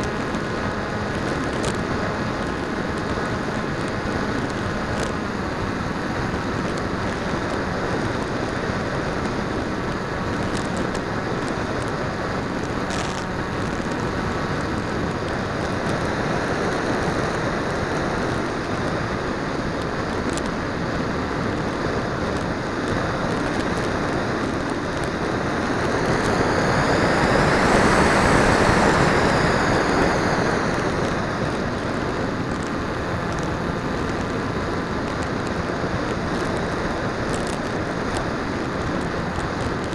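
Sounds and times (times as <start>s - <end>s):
airflow rushing over microphone: 0.0s - 39.9s
high whine: 0.0s - 39.9s
motor and propeller: 0.0s - 39.9s.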